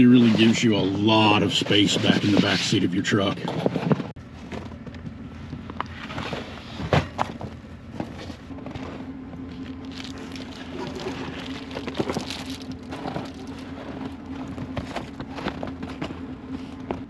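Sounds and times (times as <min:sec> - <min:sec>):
clicks and rustles of handling: 0:01.5 - 0:17.0.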